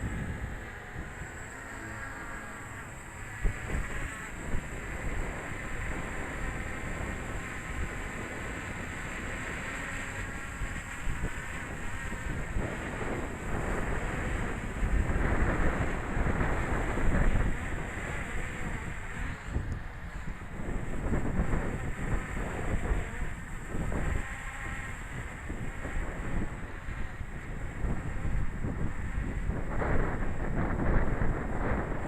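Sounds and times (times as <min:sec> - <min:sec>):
gusty wind buffeting microphone: 0:00.0 - 0:32.0.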